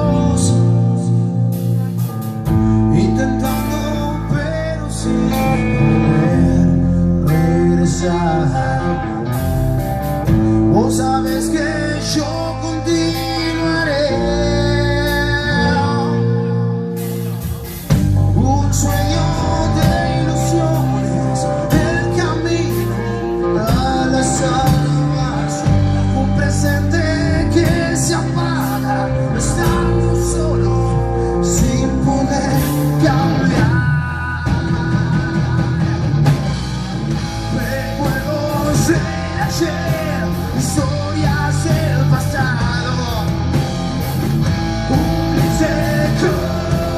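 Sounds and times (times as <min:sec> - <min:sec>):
guitar playing held chords: 0:00.0 - 0:46.9
man singing: 0:00.0 - 0:46.9
rock band with drums: 0:00.0 - 0:46.9.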